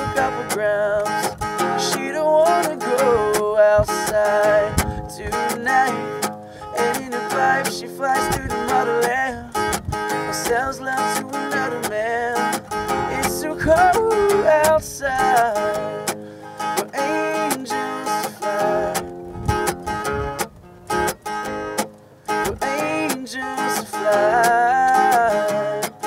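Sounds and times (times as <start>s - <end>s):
man singing: 0.0s - 19.1s, 22.4s - 26.0s
acoustic guitar strumming: 0.0s - 26.0s.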